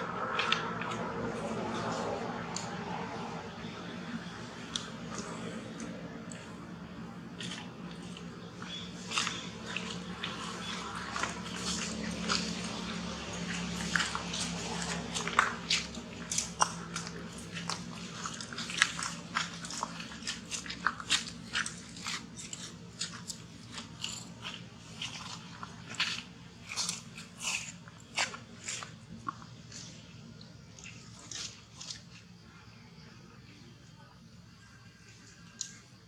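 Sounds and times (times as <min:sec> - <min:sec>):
monkey chewing crunchy food: 0:00.0 - 0:32.4.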